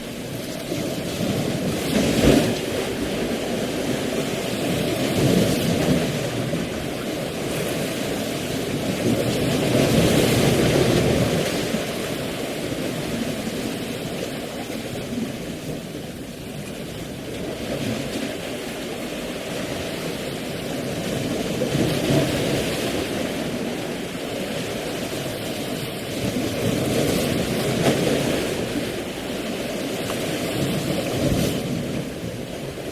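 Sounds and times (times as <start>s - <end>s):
deep rumbling rushing weather or water: 0.0s - 32.9s.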